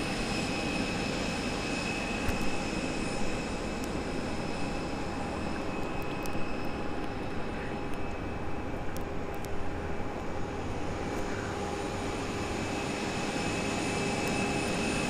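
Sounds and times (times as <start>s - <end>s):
jet turbines whining and rumbling: 0.0s - 15.0s.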